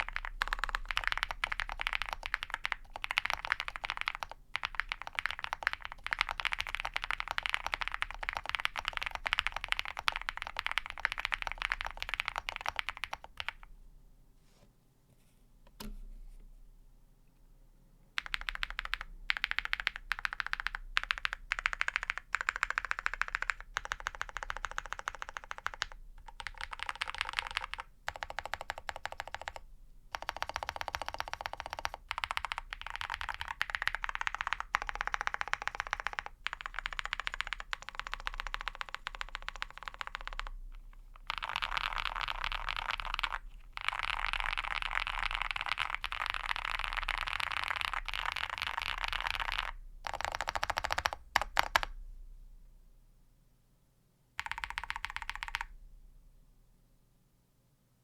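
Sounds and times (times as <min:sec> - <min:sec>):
fast mechanical keyboard typing: 0:00.0 - 0:13.7, 0:18.2 - 0:40.6, 0:41.2 - 0:52.0, 0:54.4 - 0:55.7.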